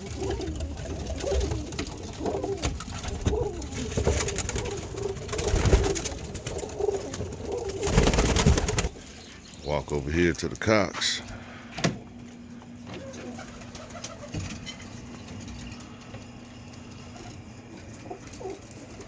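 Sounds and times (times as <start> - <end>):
pigeons cooing: 0.0 - 10.2, 12.4 - 19.0.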